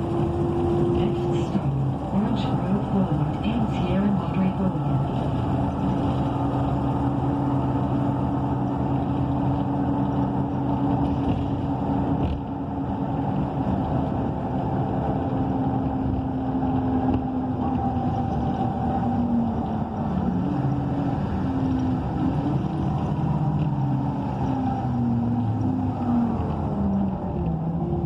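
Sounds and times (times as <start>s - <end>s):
bus engine humming: 0.0s - 28.0s.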